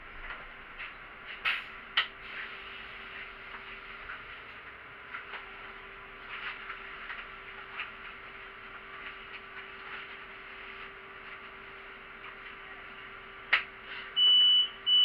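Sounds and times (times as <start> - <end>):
bus cabin hum: 0.0 - 15.0.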